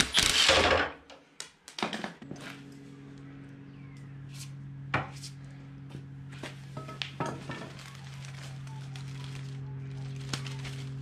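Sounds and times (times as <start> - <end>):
steady low hum: 0.8 - 11.0.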